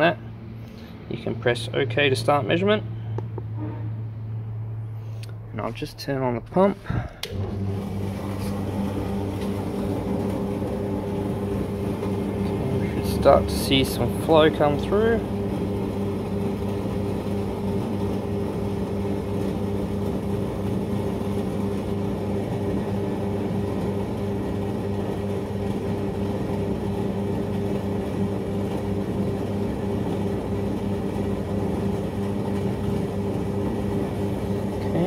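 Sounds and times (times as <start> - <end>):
water pump humming: 6.6 - 35.0.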